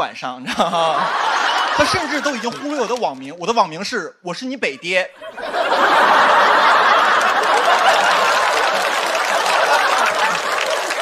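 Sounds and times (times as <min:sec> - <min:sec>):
studio audience laughing: 0:00.4 - 0:03.3, 0:04.7 - 0:11.0.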